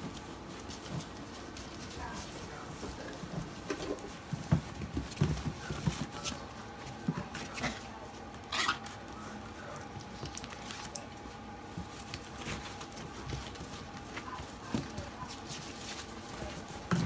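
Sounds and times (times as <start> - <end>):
puppies scuffling: 0.0 - 17.0
puppies' paws pattering: 0.0 - 17.0.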